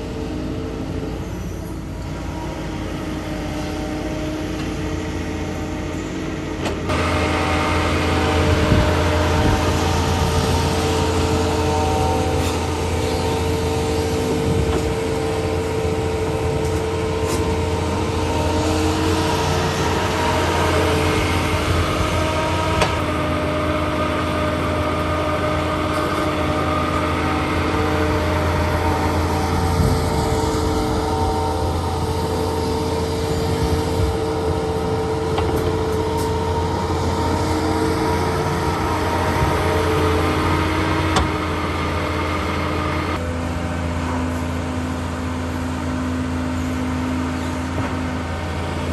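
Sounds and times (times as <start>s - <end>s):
constant machinery whine: 0.0s - 48.9s
diesel engine rumble: 0.0s - 48.9s.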